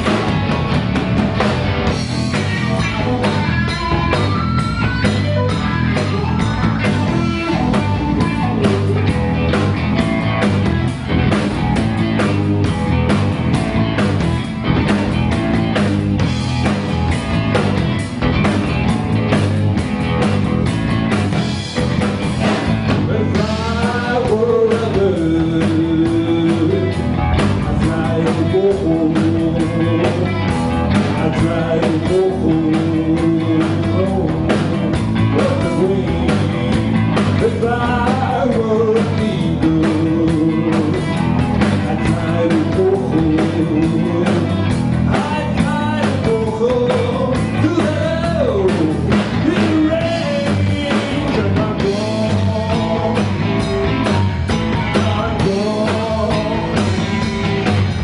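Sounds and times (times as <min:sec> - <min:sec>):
bending guitar lead melody: 0:00.0 - 0:58.0
live blues band playing: 0:00.0 - 0:58.0.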